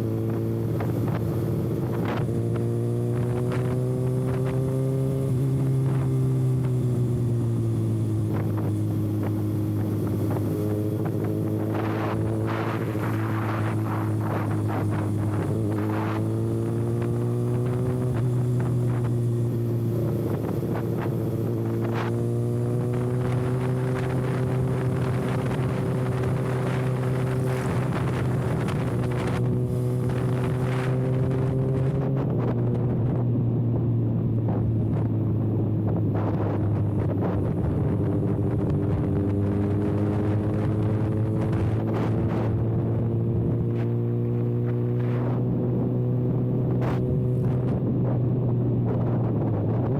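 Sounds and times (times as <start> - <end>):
motorcycle engine without silencer: 0.0 - 49.9
wind rush on microphone: 0.0 - 49.9.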